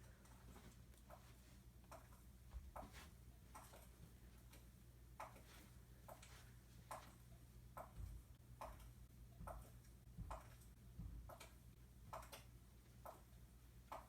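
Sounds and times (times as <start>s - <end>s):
footsteps through laptop speaker: 0.0s - 11.5s.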